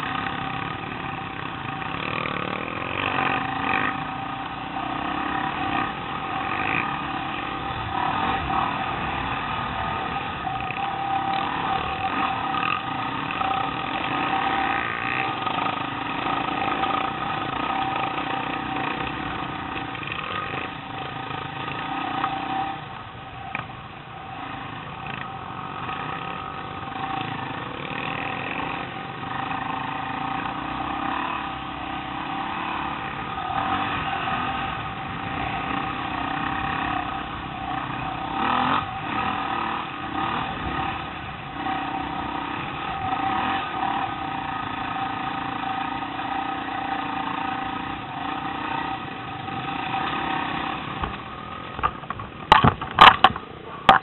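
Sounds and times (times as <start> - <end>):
dirt bike engine under throttle: 0.0 - 54.0.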